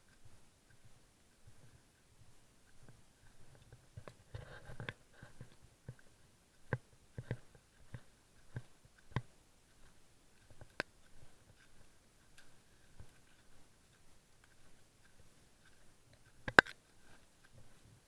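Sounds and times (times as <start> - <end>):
footsteps: 0.0 - 18.0.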